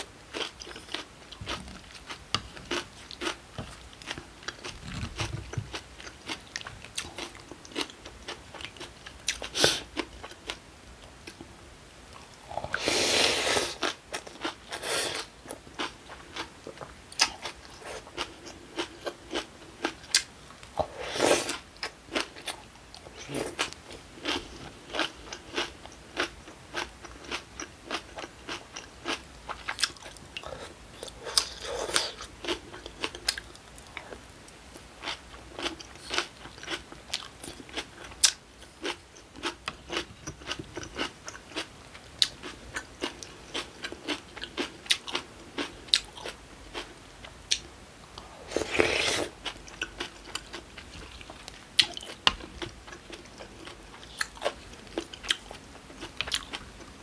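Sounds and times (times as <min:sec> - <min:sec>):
chewing and crunching food: 0:00.0 - 0:11.5, 0:12.1 - 0:57.0.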